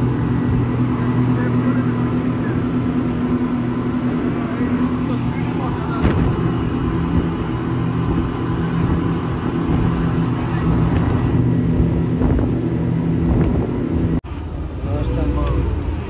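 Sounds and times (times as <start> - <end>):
speedboat engines droning: 0.0 - 16.0
wind: 0.0 - 16.0.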